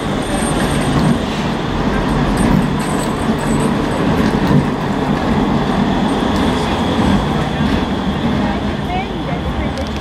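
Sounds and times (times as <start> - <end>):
tram wheels on rails: 0.0 - 10.0.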